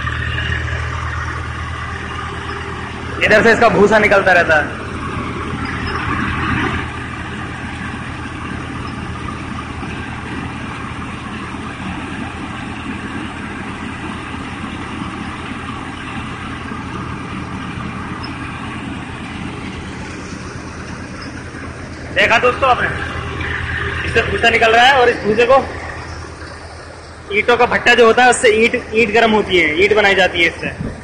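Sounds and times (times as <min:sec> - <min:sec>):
threshing machine running: 0:00.0 - 0:31.0
tractor engine running: 0:00.0 - 0:31.0.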